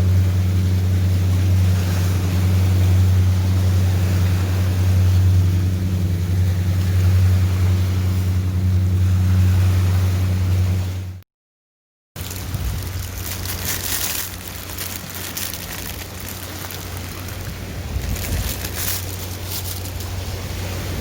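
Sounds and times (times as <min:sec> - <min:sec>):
low engine drone: 0:00.0 - 0:11.2, 0:12.2 - 0:21.0
surf: 0:00.0 - 0:11.2, 0:12.2 - 0:21.0
wind: 0:00.0 - 0:11.2, 0:12.2 - 0:21.0.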